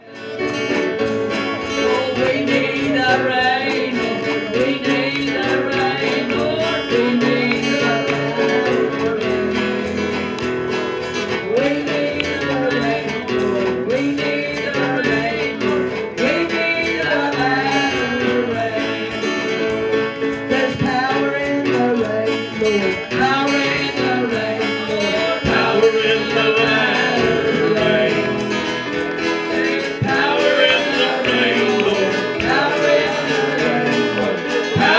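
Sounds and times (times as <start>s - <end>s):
gospel song singing: 0.0s - 34.9s
guitar accompaniment: 0.0s - 34.9s.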